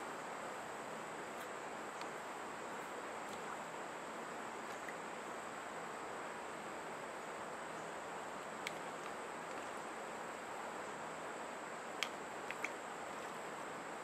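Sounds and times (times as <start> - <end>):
even hiss: 0.0 - 14.0.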